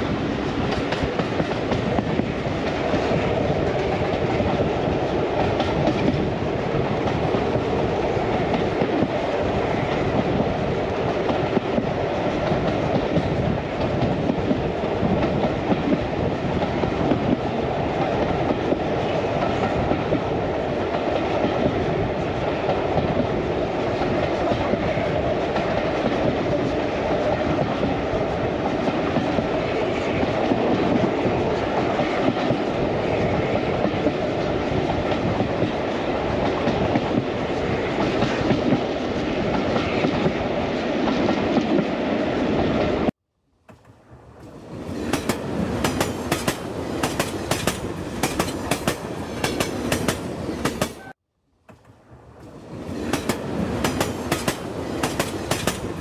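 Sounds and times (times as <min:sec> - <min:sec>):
train wheels rumbling on track: 0:00.0 - 0:43.1, 0:43.7 - 0:56.0.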